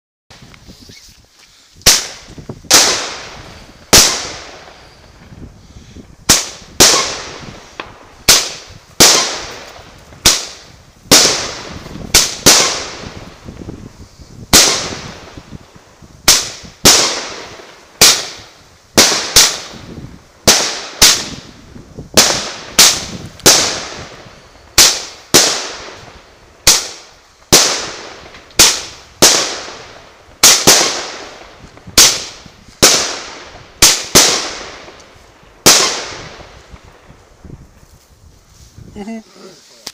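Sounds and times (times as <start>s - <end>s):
firework bangs: 1.8s - 37.9s.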